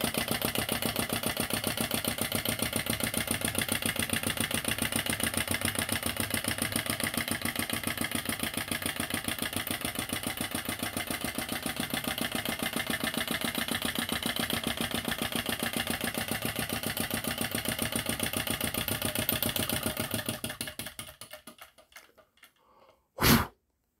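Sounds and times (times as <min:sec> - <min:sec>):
model engine running: 0:00.0 - 0:22.5.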